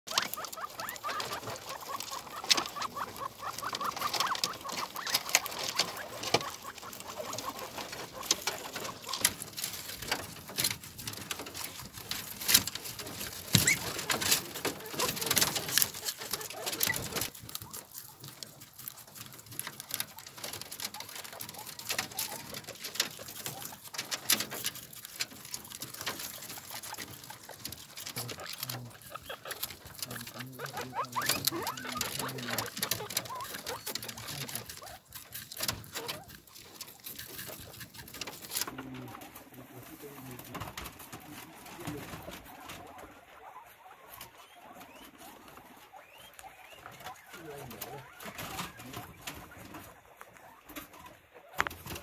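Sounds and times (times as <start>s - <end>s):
guinea pigs gnawing and crunching: 0.0s - 52.0s
guinea pig calls: 0.1s - 40.2s, 41.4s - 52.0s
small feet scrabbling on wire mesh: 0.1s - 52.0s.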